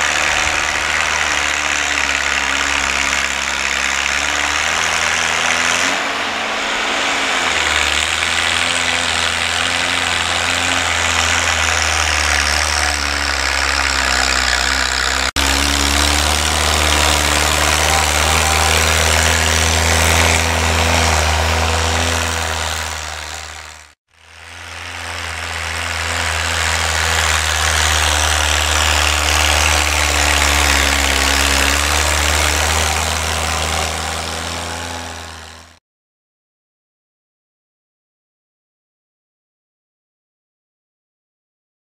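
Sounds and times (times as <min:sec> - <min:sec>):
tractor engine running: 0:00.0 - 0:35.8.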